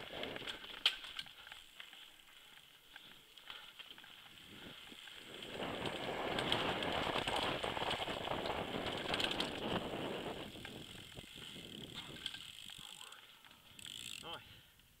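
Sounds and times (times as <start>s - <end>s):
mountain bike rattling: 0.0s - 14.7s.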